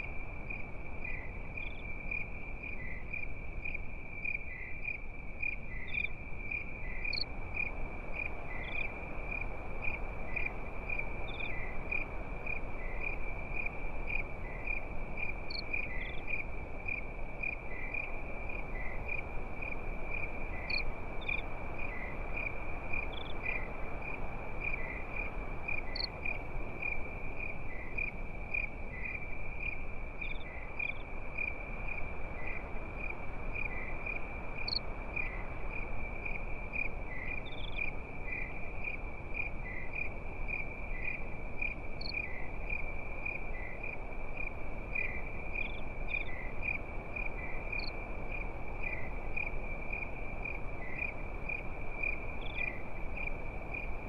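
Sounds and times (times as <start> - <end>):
constant low hiss: 0.0 - 54.0
crickets chirping: 0.0 - 54.0.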